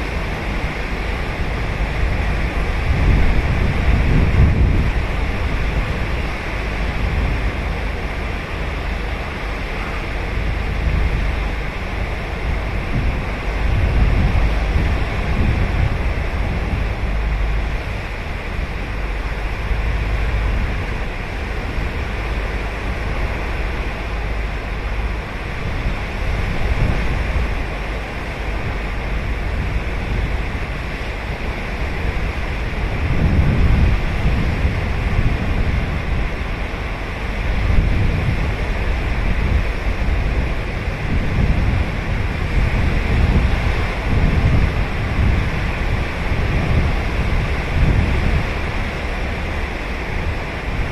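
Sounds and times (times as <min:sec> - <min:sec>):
ocean surf breaking on beach: 0:00.0 - 0:50.9
wind rumble on microphone: 0:00.0 - 0:50.9.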